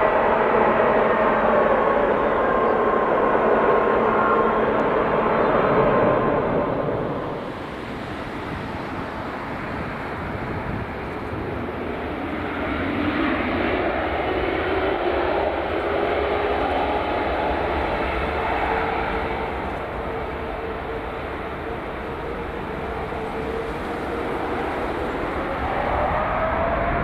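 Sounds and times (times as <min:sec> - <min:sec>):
jet engine whine: 0:00.0 - 0:27.0
jet engines rushing: 0:00.0 - 0:27.0.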